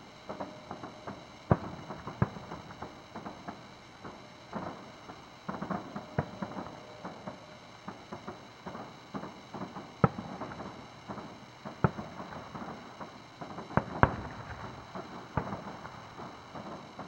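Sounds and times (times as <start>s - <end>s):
firework shells booming: 0.3s - 17.0s.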